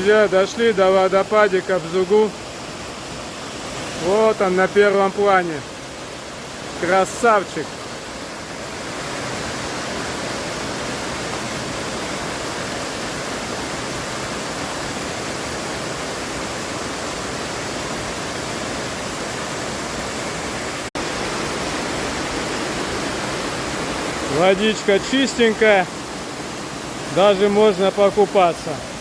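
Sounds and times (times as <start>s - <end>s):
small waterfall rushing: 0.0s - 29.0s.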